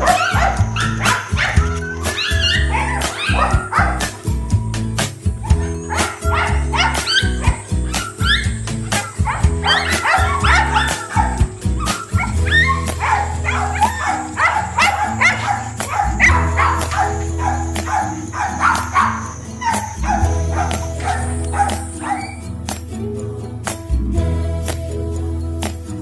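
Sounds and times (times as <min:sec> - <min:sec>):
dogs barking and yipping: 0:00.0 - 0:22.5
background music with low notes: 0:00.0 - 0:26.0.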